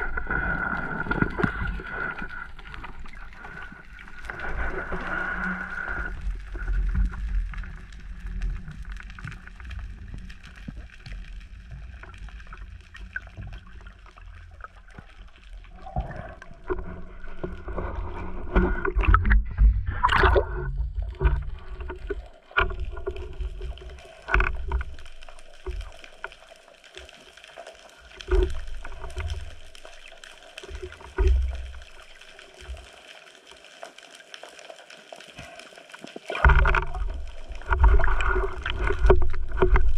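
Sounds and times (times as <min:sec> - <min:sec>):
muffled underwater water wash: 0:00.0 - 0:39.9.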